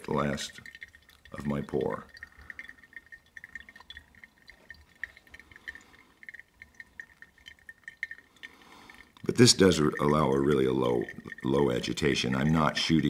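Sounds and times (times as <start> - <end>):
drip ticks: 0.0 - 13.0
water trickling onto coffee: 0.0 - 13.0.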